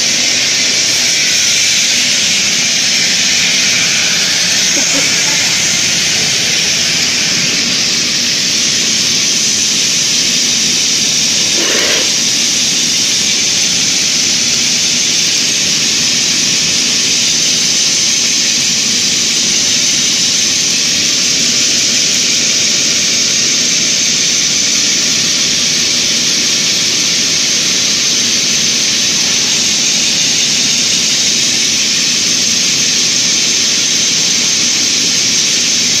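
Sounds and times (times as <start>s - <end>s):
wire drawing machine hiss and whir: 0.0s - 36.0s.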